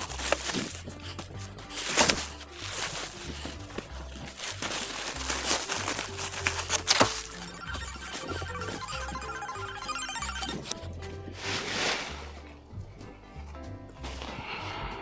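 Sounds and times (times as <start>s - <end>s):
crinkling and crackling noises: 0.0s - 12.6s.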